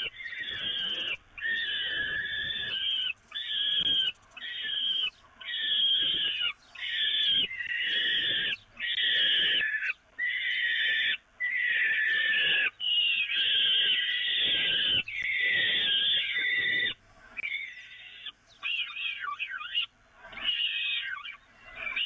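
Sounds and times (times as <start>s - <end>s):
falcon chicks screaming calls: 0.0s - 22.0s.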